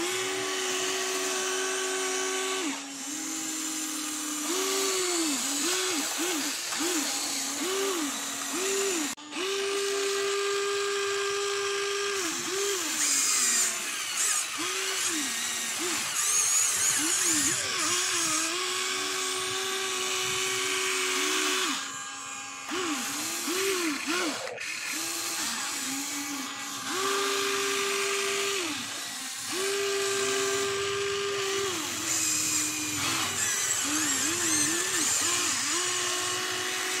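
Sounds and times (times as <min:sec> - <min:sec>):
toy excavator motors whining: 0:00.0 - 0:37.0.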